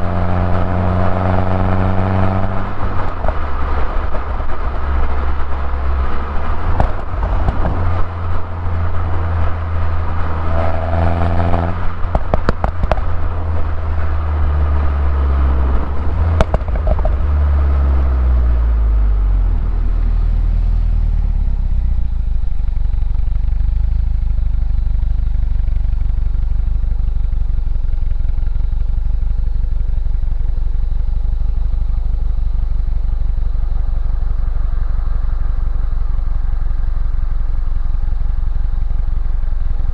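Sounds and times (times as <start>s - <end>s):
car engine accelerating: 0.0s - 39.9s
car engine idling: 0.0s - 39.9s.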